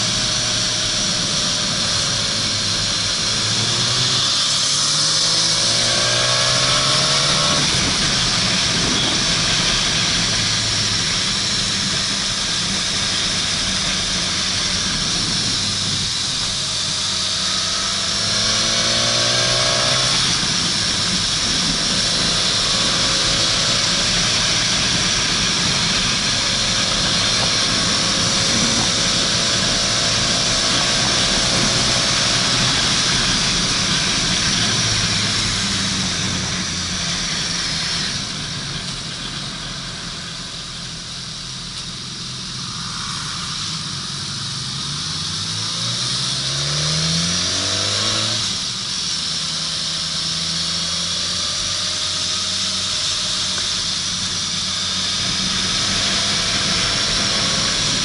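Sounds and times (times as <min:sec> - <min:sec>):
wind noise on microphone: 0:00.0 - 0:48.9, 0:51.6 - 0:58.0
motorcycle engine accelerating: 0:00.0 - 0:58.0.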